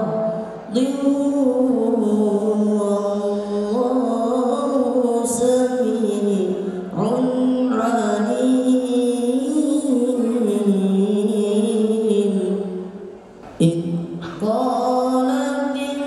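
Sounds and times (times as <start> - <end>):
man chanting into microphone: 0.0 - 12.8, 13.6 - 16.0.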